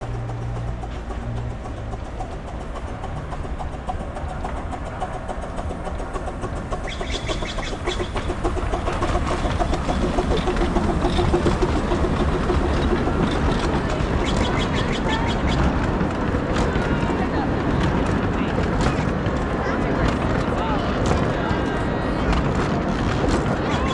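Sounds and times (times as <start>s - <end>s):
miniature steam train running: 0.0s - 23.9s
rapid clicking: 0.0s - 23.9s.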